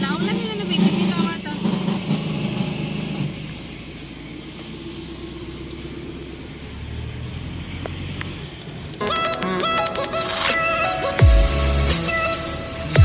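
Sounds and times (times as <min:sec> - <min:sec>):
diesel car engine hum: 0:00.0 - 0:13.0.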